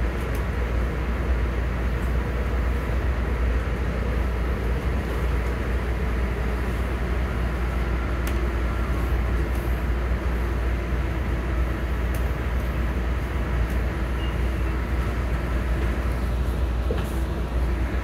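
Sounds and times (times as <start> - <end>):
train rumble from inside car: 0.0 - 18.0.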